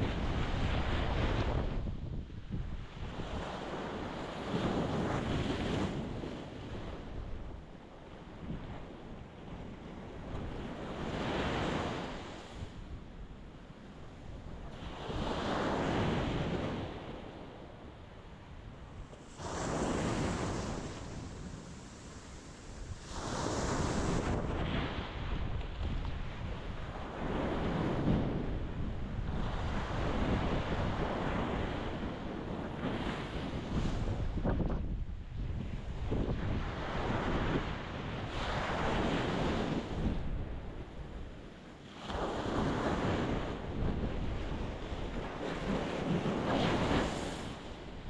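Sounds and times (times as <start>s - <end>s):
wind rumble on microphone: 0.0s - 48.0s.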